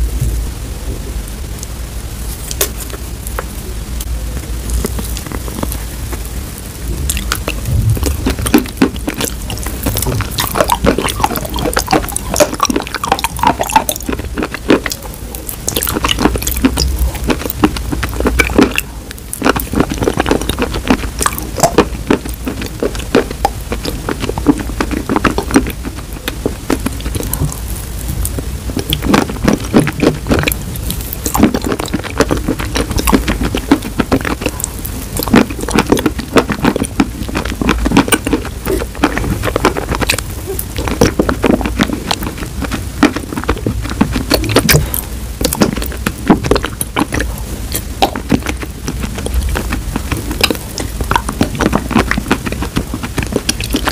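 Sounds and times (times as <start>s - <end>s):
sticky wet squelching and clicks: 2.5s - 6.4s, 7.0s - 53.9s.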